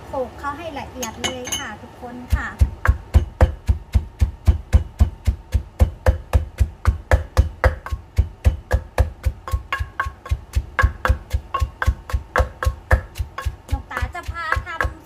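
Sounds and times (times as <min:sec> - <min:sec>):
pestle pounding in a mortar: 0:02.1 - 0:15.0.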